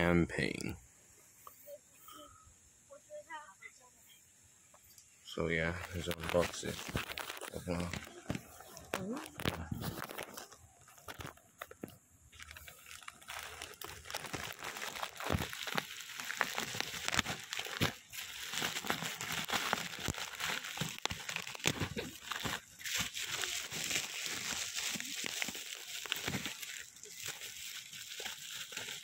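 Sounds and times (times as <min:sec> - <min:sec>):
plastic packaging crinkling: 0:05.5 - 0:29.0.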